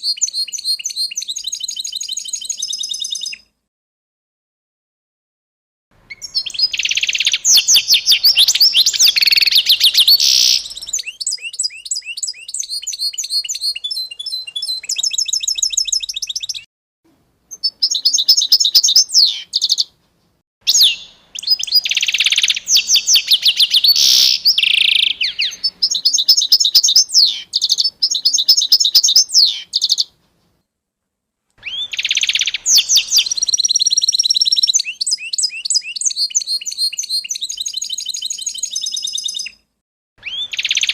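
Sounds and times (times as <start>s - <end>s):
songbirds chirping and trilling: 0.0s - 3.5s, 6.0s - 16.7s, 17.5s - 20.0s, 20.7s - 30.6s, 31.6s - 39.6s, 40.2s - 40.9s.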